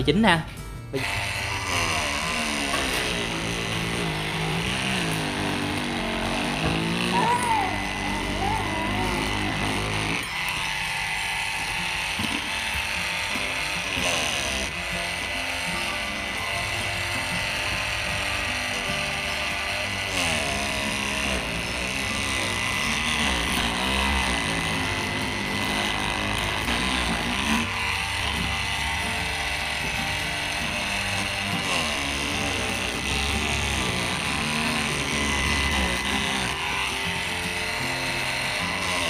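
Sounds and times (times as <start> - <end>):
oscillating multi-tool whining: 0.9 - 39.0.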